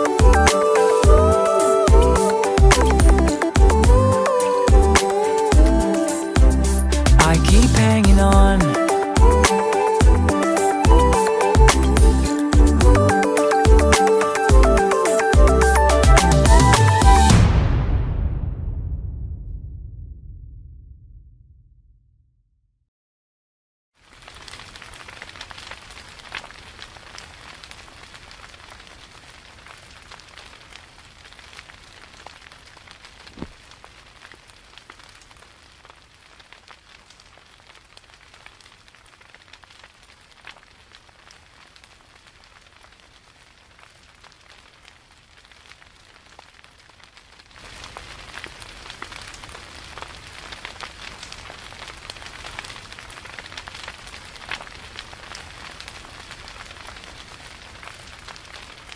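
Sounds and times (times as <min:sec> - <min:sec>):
steady rain falling: 0:00.0 - 0:17.4, 0:24.0 - 0:58.9.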